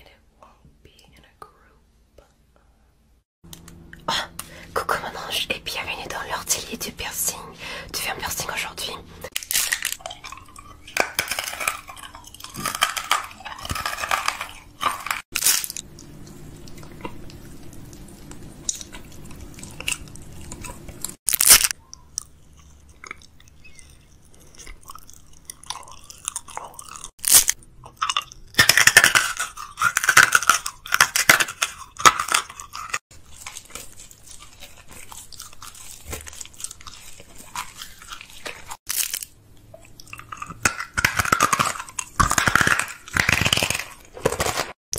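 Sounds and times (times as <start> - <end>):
person chewing and crunching candy: 3.7 - 44.8.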